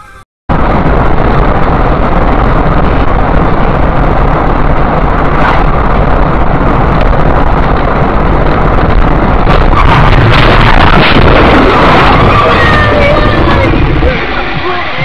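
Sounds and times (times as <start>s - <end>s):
car road and wind noise: 0.5s - 15.0s.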